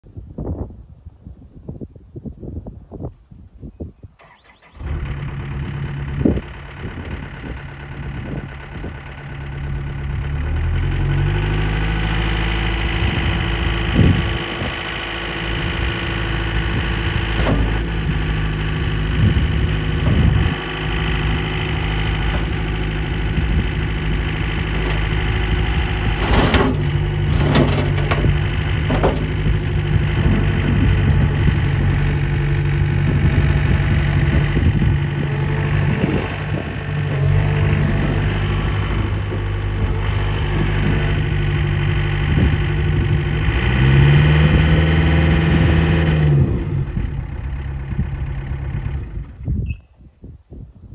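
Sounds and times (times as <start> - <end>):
diesel engine throttling up: 4.2 - 49.7.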